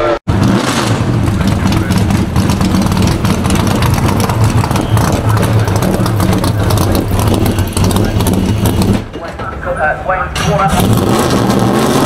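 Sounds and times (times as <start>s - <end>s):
race car engine running: 0.3s - 9.7s, 10.4s - 12.0s.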